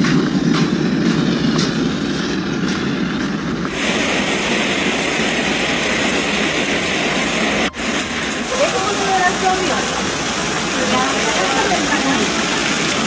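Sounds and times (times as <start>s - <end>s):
hail pelting hard surfaces: 0.0s - 13.0s
bright hiss: 0.3s - 13.0s.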